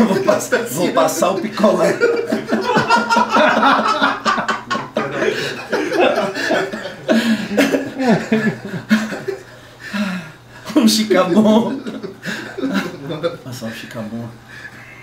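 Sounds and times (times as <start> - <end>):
men laughing: 0.0 - 13.7
men chattering: 0.0 - 15.0.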